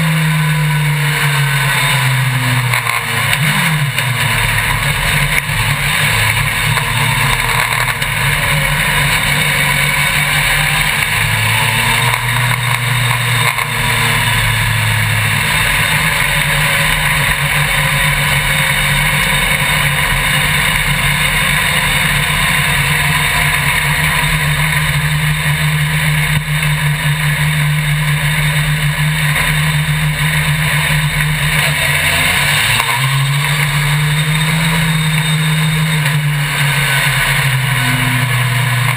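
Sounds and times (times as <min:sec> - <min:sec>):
racing buggy engine running hard: 0:00.0 - 0:38.9.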